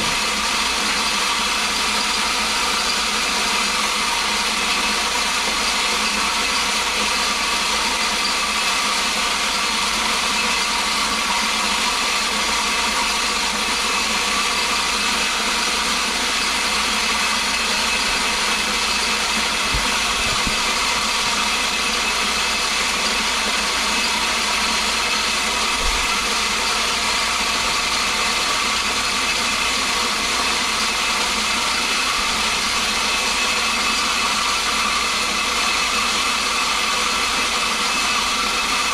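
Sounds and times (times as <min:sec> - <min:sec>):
feed grinder grinding corn: 0:00.0 - 0:38.9.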